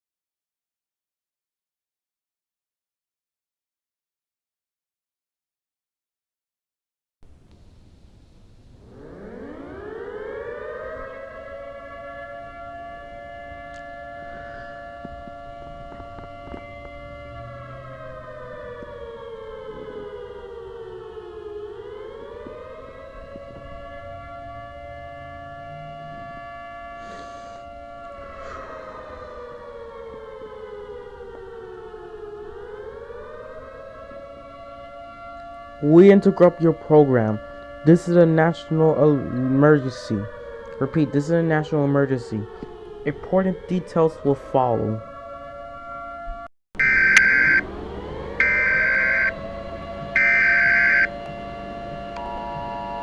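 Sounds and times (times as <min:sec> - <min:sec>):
civil defense siren wailing: 0:08.4 - 0:53.0.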